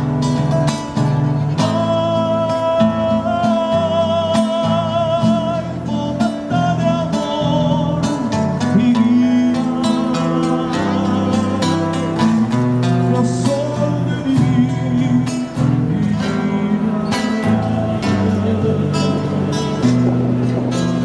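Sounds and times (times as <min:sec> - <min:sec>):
strummed guitar: 0:00.0 - 0:21.0.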